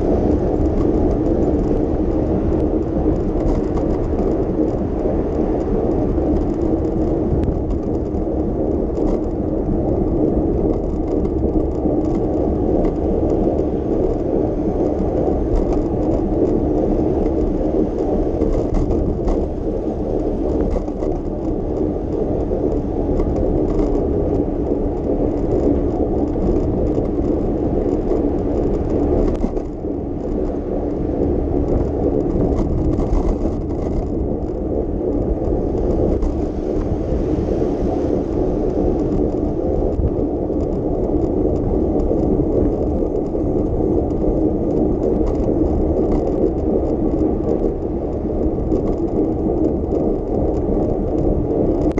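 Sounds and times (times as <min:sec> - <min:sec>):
bicycle tyres on pavement: 0:00.0 - 0:51.9
small clicks and rattles: 0:00.0 - 0:51.9.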